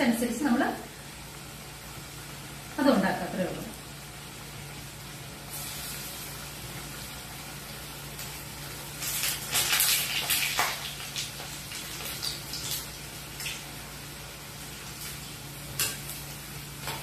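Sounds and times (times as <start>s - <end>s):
fritters deep-frying in hot oil: 0.1s - 17.0s.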